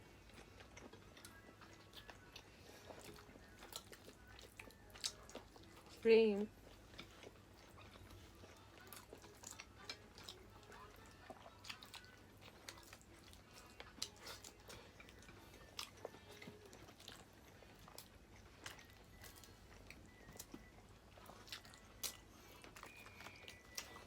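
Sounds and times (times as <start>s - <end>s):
chewing with small crunches: 0.0s - 24.0s.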